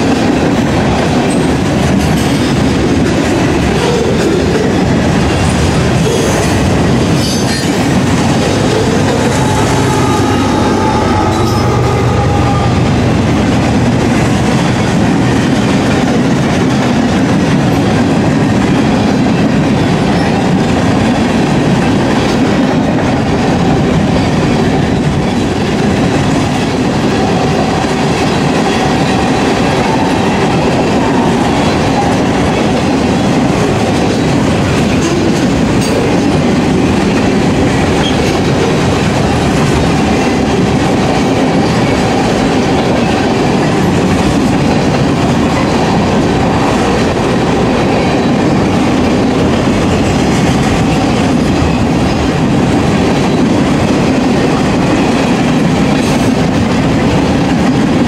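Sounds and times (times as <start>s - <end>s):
steel wheels running on rails: 0.0s - 58.0s.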